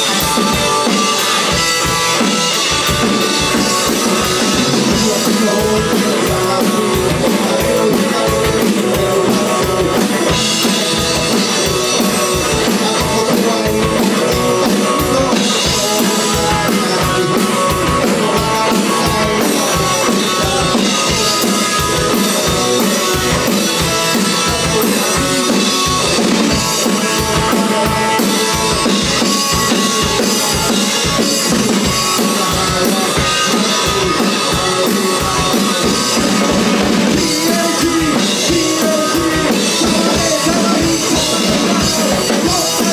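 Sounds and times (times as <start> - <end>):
drum kit beat: 0.0 - 42.9
electric guitar rock: 0.0 - 42.9.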